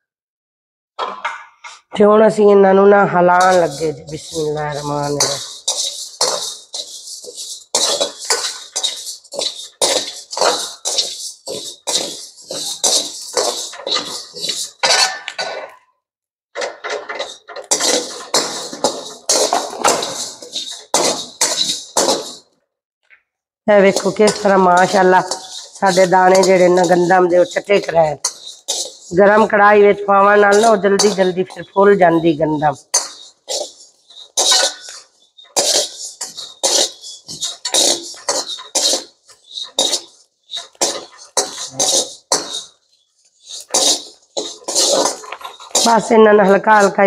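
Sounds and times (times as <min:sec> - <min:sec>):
spoon scraping metal pan: 0:01.0 - 0:15.8, 0:16.6 - 0:22.6, 0:23.7 - 0:47.0
grains rattling on metal: 0:03.3 - 0:15.2, 0:16.6 - 0:22.4, 0:23.7 - 0:42.8, 0:43.4 - 0:47.0.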